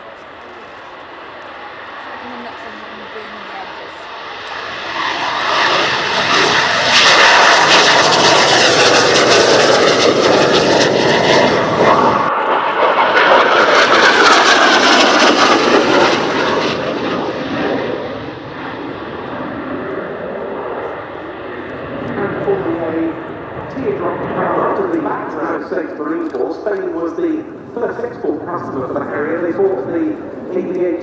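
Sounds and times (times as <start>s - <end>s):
jet engine roaring: 0.0s - 31.0s.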